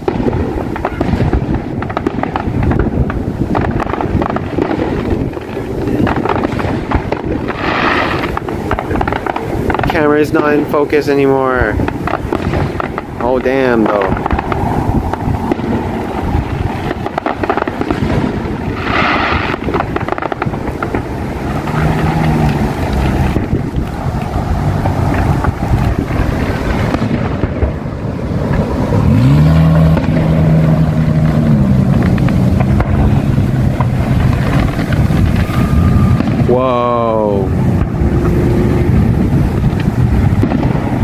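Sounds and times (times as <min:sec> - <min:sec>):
highway traffic passing: 0:00.0 - 0:41.0
wind buffeting microphone: 0:00.0 - 0:41.0.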